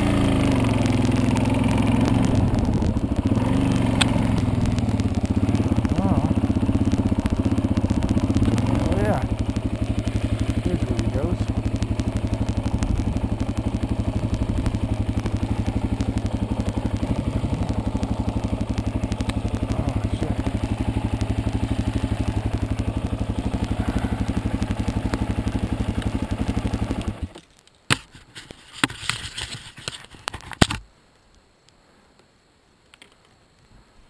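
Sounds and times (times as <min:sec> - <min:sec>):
dirt bike engine idling: 0:00.0 - 0:27.4.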